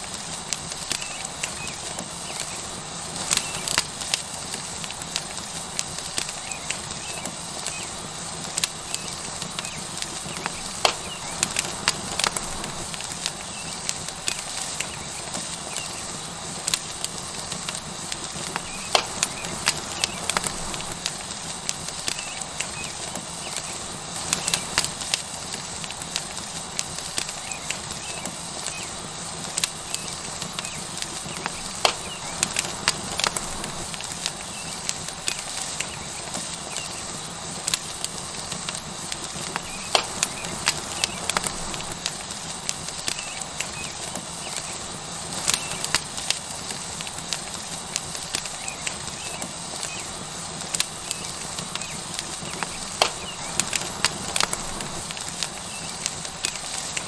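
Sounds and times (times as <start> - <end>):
steak sizzling: 0.0 - 57.0
wood fire crackling and popping: 0.0 - 57.0.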